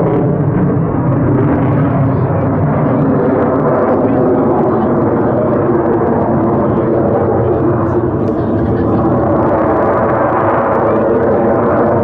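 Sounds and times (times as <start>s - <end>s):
jet engine rumble: 0.0s - 12.0s.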